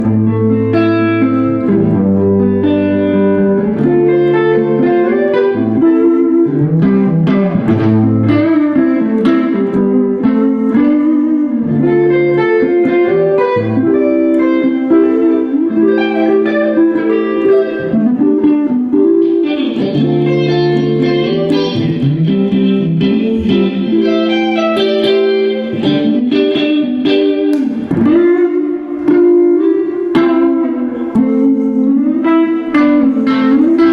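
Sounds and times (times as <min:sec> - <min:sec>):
guitar playing picked notes: 0:00.0 - 0:33.9.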